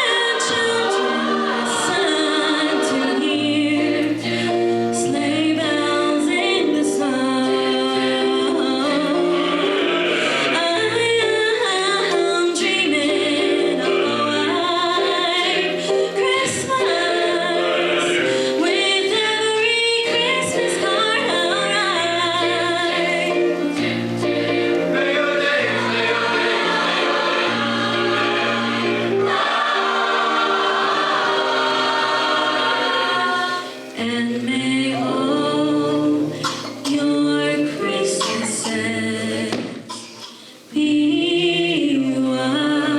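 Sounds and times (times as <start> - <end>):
choir singing in harmony: 0.0 - 40.0, 40.6 - 42.9.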